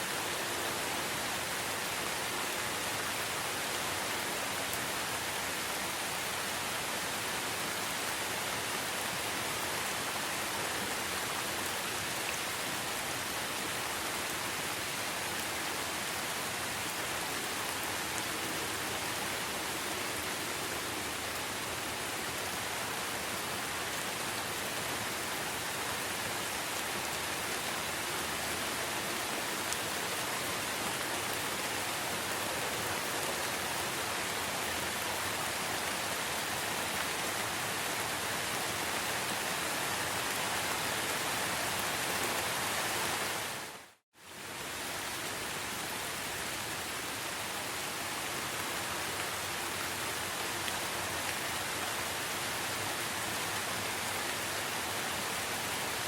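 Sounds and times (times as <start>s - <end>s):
steady rain in forest: 0.0s - 56.0s.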